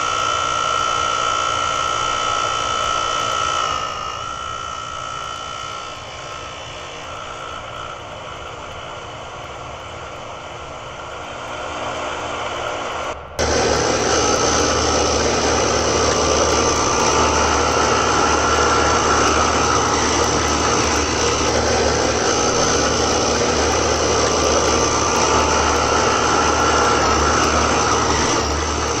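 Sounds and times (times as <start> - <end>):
heat pump running: 0.0 - 29.0
high whine tones: 0.0 - 29.0.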